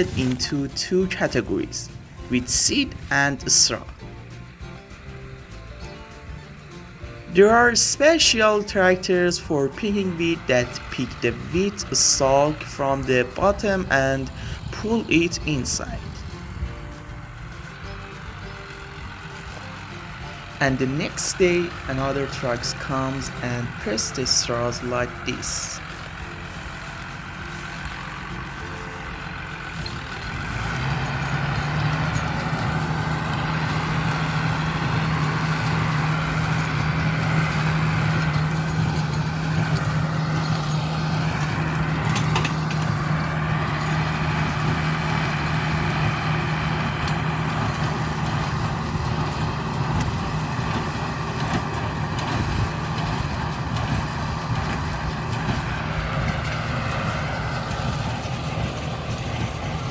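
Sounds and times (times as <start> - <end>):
baling machine engine hum: 0.0 - 59.9.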